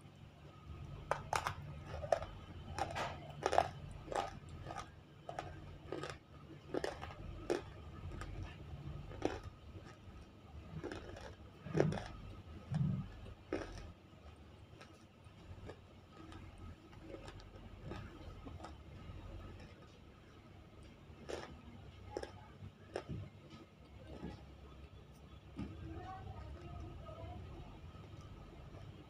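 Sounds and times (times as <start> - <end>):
crunching and chewing: 0.5 - 29.0.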